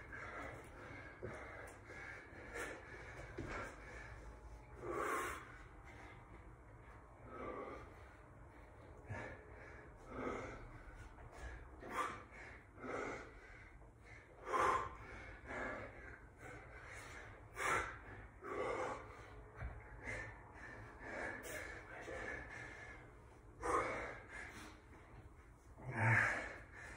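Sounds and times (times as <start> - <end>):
man breathing hard: 0.0 - 26.9.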